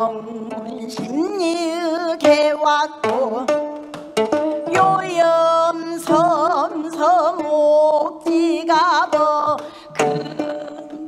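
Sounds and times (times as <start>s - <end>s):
woman singing with vibrato: 0.0s - 3.6s, 4.6s - 11.0s
plucked zither strings: 0.0s - 11.0s.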